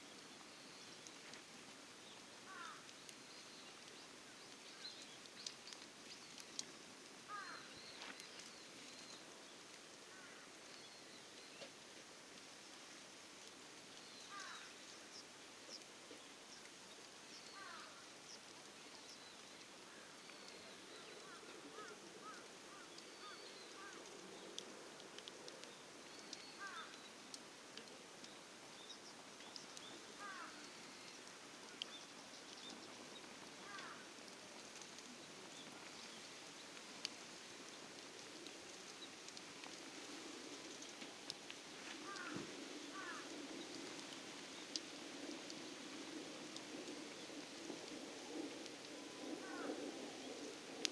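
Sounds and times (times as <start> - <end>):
faint sharp clicks: 2.5 - 12.5, 13.4 - 50.9.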